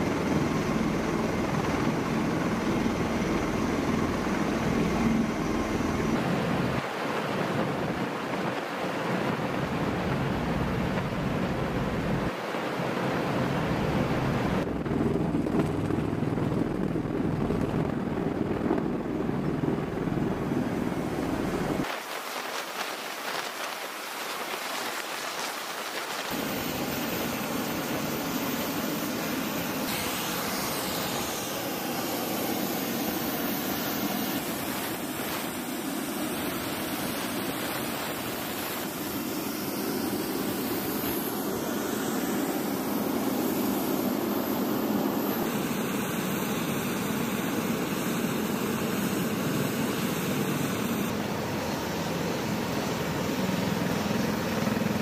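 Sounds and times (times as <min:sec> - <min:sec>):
aircraft engines and rotors running: 0:00.0 - 0:55.0
wind: 0:00.0 - 0:55.0.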